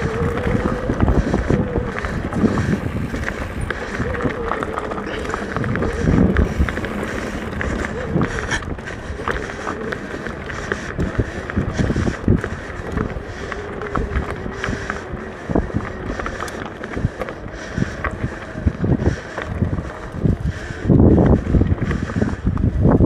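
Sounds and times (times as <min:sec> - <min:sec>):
bike tyres rolling on dirt: 0:00.0 - 0:23.0
wind buffeting microphone: 0:00.0 - 0:23.0.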